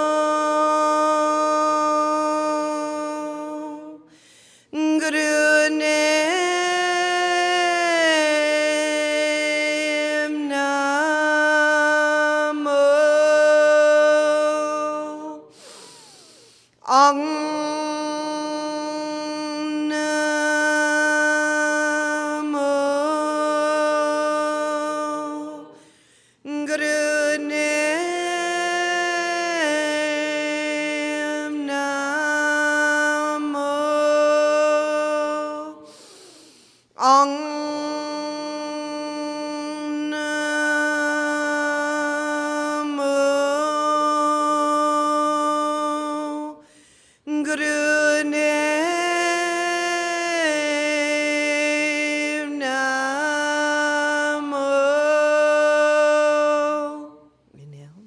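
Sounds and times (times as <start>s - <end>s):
woman chanting: 0.0s - 4.1s, 4.7s - 16.2s, 16.8s - 25.8s, 26.5s - 36.3s, 37.0s - 46.6s, 47.3s - 58.0s.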